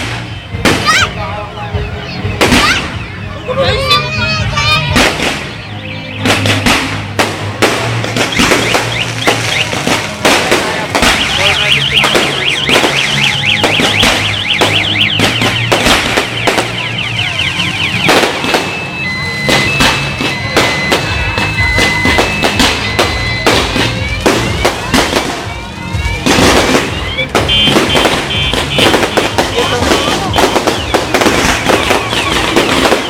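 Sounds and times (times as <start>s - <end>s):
fireworks exploding: 0.0s - 1.2s, 2.0s - 33.0s
electronic alarm warbling and beeping: 0.0s - 33.0s
rising firework whistles: 2.4s - 25.4s, 26.3s - 33.0s.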